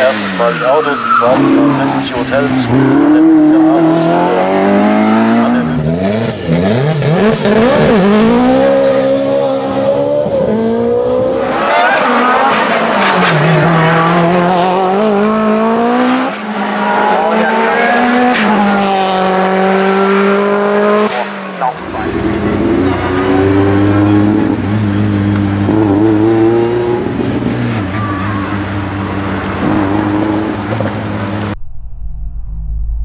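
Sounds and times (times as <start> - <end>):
race car engines accelerating: 0.0 - 31.6.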